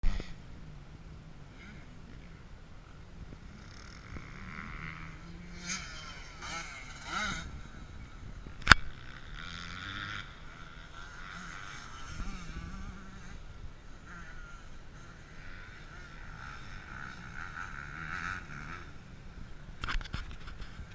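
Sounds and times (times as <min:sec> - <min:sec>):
motocross motorcycles revving: 0:00.0 - 0:20.9.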